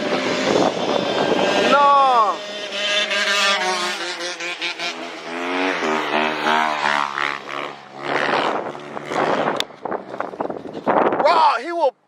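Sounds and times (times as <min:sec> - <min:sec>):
dirt bike engines racing past: 0:00.0 - 0:11.3.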